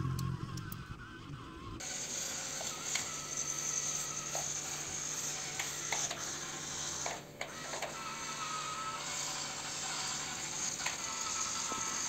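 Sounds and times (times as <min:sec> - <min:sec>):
electric motor whirring: 0:00.0 - 0:12.0.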